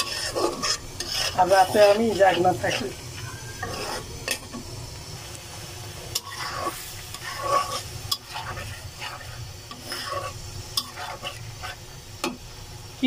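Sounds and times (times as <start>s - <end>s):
metal spatula scraping pan: 0.0s - 4.6s, 6.0s - 12.4s
curry sizzling: 0.0s - 13.0s.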